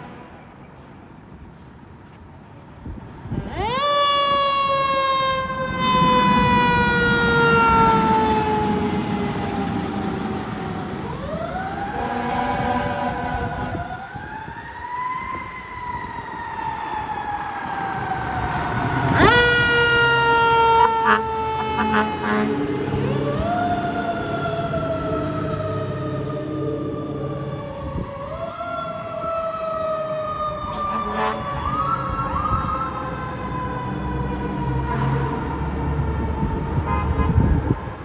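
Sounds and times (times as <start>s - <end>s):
truck engine rumble: 0.1s - 38.0s
fire truck siren wailing: 3.3s - 38.0s.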